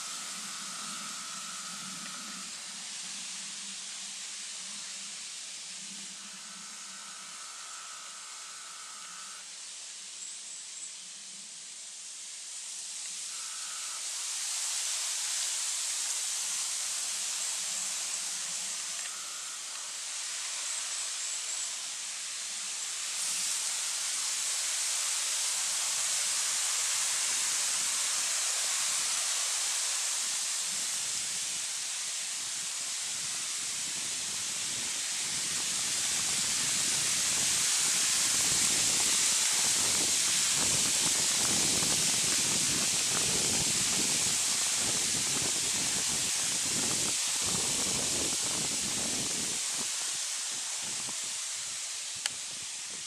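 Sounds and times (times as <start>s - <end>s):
outdoor forest background hiss: 0.0s - 53.0s.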